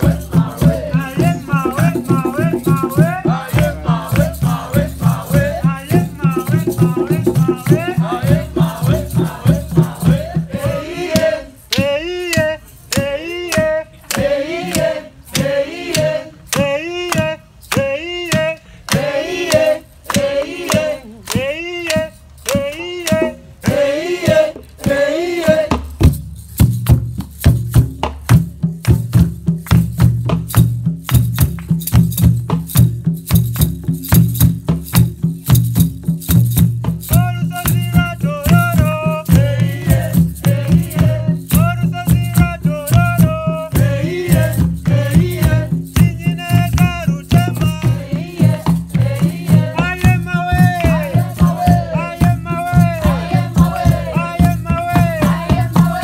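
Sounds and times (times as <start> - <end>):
hand drums: 0.0 - 56.0
light rattling percussion: 0.0 - 56.0.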